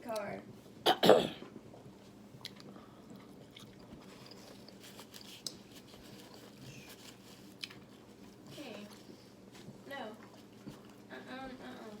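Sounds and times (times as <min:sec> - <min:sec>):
person chewing food: 0:01.5 - 0:11.1.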